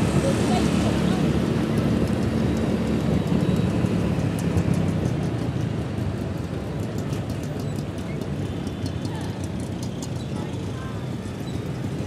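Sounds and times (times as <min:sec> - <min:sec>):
motorbike engine: 0:00.0 - 0:12.0.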